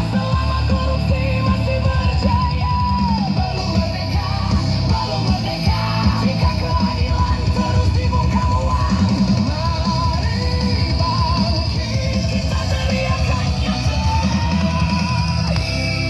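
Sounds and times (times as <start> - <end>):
loud rock song: 0.0 - 16.0.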